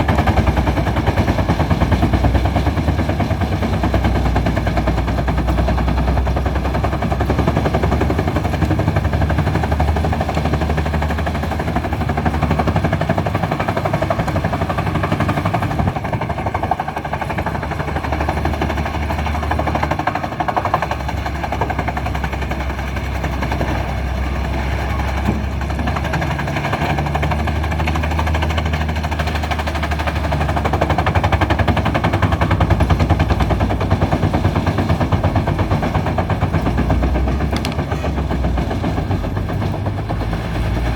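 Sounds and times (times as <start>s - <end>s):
diesel engines droning: 0.0s - 40.9s
wood chipper rattling clatter: 0.0s - 40.9s.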